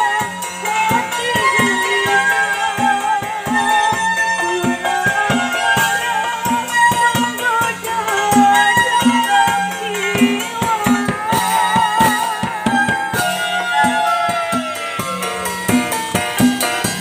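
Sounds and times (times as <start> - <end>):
bass drum and hand drums: 0.0 - 17.0
ornamented lead melody: 0.0 - 17.0
street band over loudspeakers: 0.0 - 17.0.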